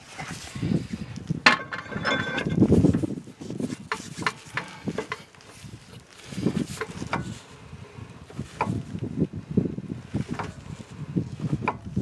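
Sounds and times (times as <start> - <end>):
rotor scraping and rubbing: 0.0 - 12.0.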